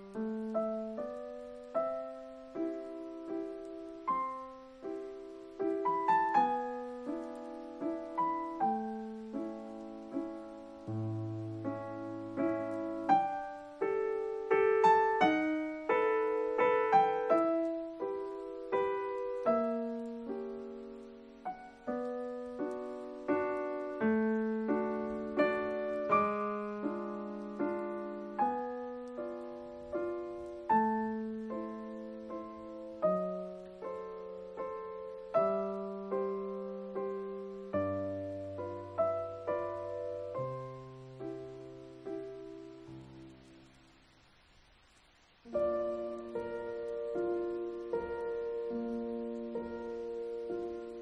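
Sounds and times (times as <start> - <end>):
slow gentle piano music: 0.0 - 51.0.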